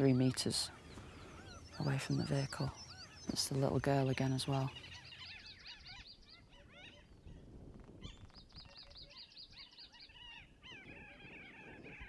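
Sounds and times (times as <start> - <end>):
faint birdsong with high chirps: 0.0 - 12.0.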